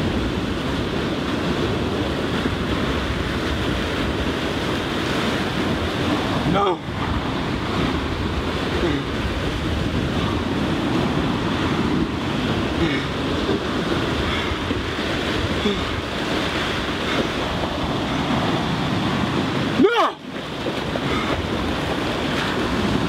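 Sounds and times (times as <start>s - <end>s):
waves washing on shore: 0.0s - 23.0s
wind: 0.0s - 23.0s.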